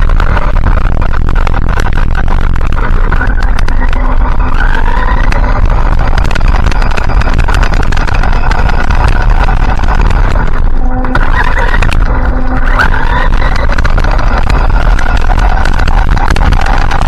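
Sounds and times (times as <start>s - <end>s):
electric motor whining: 0.0s - 17.0s
loud steady rumble: 0.0s - 17.0s.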